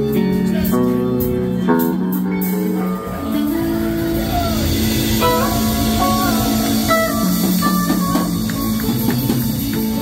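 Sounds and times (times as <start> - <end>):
lead guitar line: 0.0 - 10.0
live rock band playing: 0.0 - 10.0.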